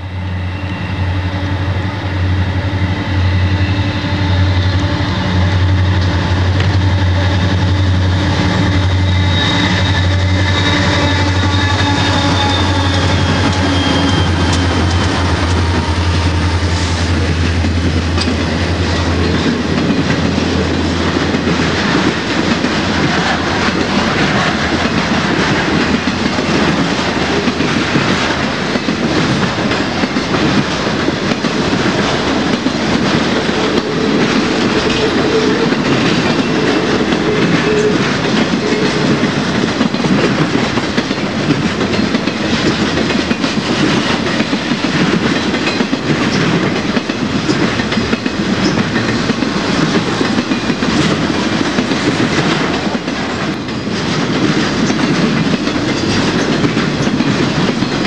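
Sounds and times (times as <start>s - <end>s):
diesel locomotive engine drone: 0.0s - 58.0s
train cars clacking on rails: 0.0s - 58.0s.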